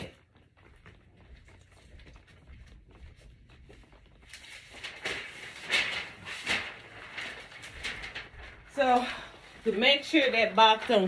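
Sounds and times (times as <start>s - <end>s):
rustling and handling noises: 0.0s - 11.0s.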